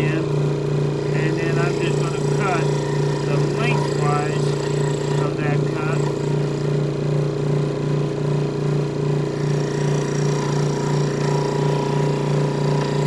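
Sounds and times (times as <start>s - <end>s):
electric saw motor humming: 0.0s - 13.0s.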